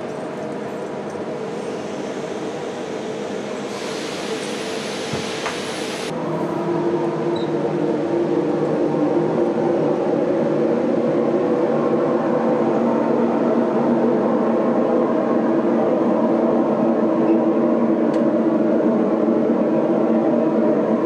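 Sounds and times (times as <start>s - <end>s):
foundry machinery drone: 0.0s - 21.0s.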